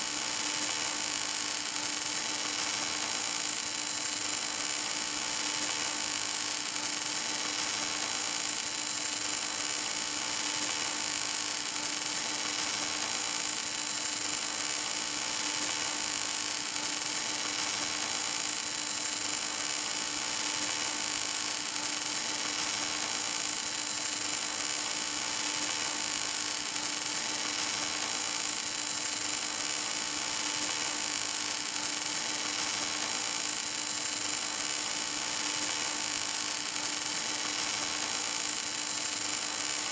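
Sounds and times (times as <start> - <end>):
welding arc hissing: 0.0 - 39.9.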